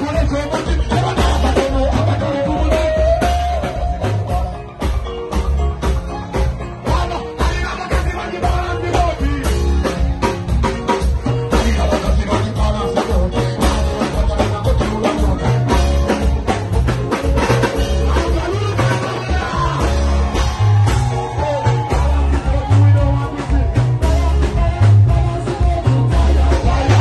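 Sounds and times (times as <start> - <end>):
person singing through pa: 0.0 - 5.7, 6.6 - 27.0
drum kit beat: 0.0 - 27.0
guitar: 0.0 - 27.0
heavy bass line: 0.0 - 27.0.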